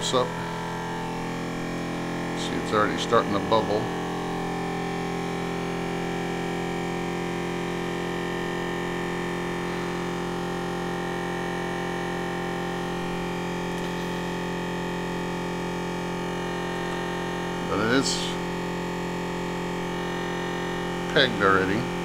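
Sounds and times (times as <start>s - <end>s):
vacuum pump humming: 0.0s - 22.0s.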